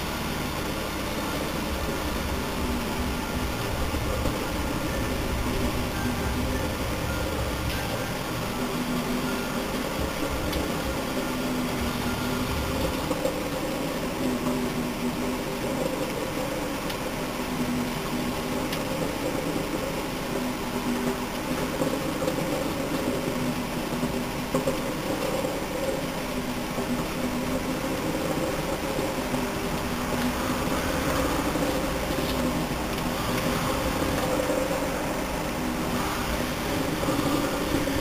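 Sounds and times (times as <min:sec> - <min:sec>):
cooling fan: 0:00.0 - 0:38.0
microwave oven humming: 0:00.0 - 0:38.0.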